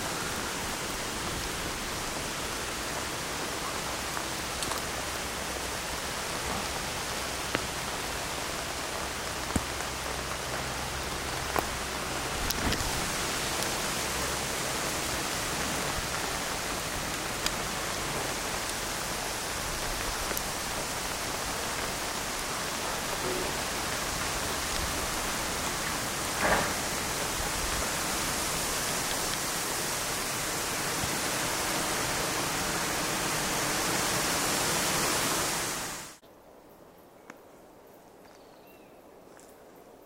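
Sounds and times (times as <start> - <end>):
heavy rain hissing: 0.0 - 36.2.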